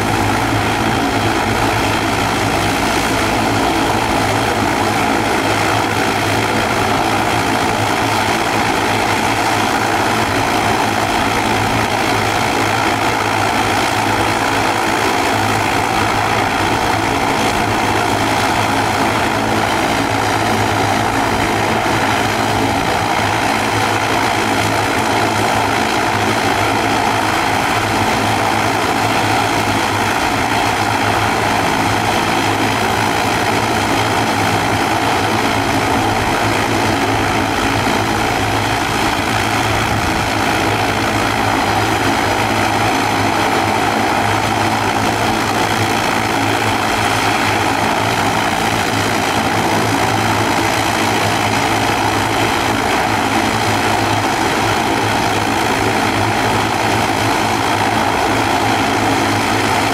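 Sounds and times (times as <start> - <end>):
turboprop propeller drone: 0.0 - 59.9.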